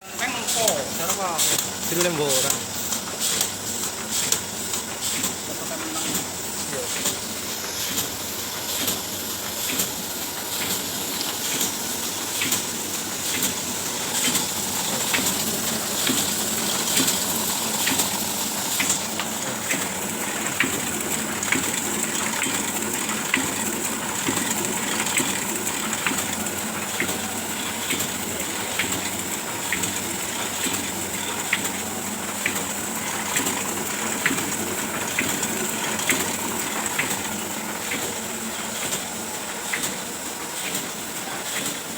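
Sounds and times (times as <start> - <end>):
printing press hiss and whir: 0.0 - 41.9.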